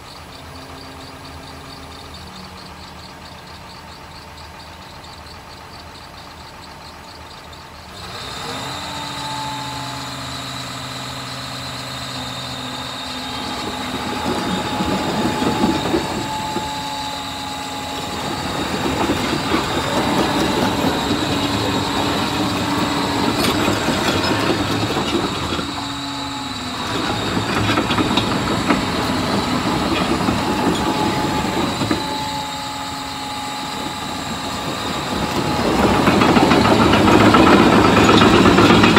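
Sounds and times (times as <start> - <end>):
diesel engine idling and revving: 0.0 - 38.9
steady whine: 0.0 - 38.9
steel tracks clanking and squealing: 0.0 - 38.9.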